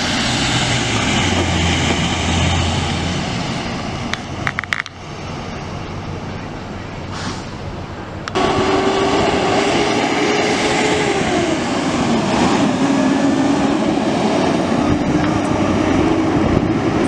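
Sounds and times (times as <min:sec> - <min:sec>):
truck driving past: 0:00.0 - 0:17.0.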